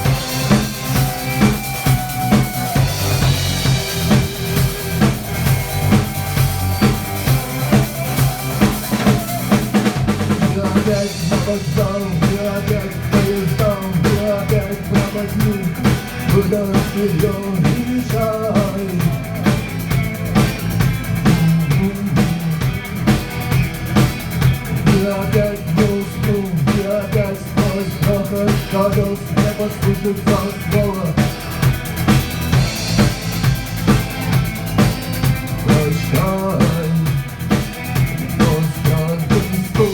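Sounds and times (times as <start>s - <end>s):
drum kit beat: 0.0s - 39.9s
rock band playing: 0.0s - 39.9s.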